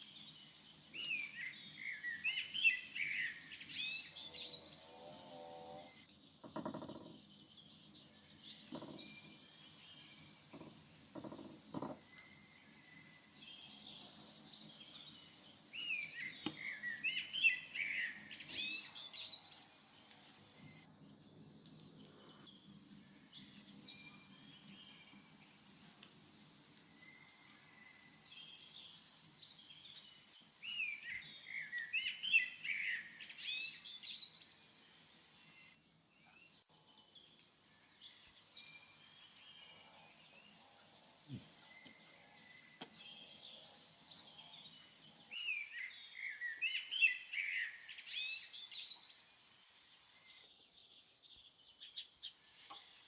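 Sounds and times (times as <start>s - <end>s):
small birds singing and chirping: 0.0s - 53.0s.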